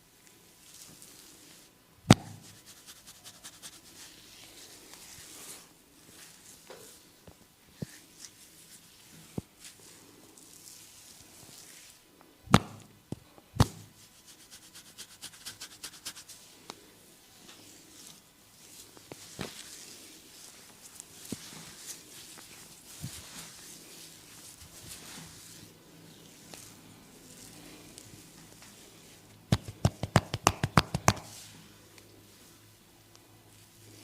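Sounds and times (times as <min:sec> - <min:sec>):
hands rubbing hair: 0:02.3 - 0:07.2, 0:07.8 - 0:12.0, 0:13.6 - 0:16.8, 0:17.4 - 0:32.7.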